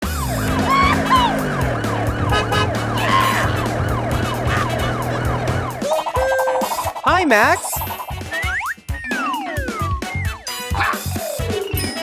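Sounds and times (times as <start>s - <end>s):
siren warbling: 0.0s - 11.0s
music with steady beat: 0.0s - 12.0s.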